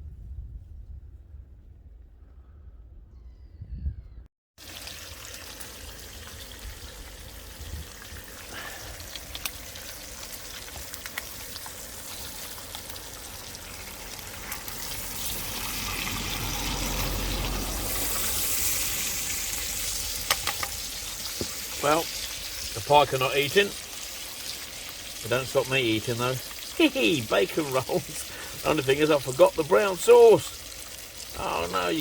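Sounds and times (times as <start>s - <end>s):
bacon sizzling in a pan: 4.6s - 32.0s.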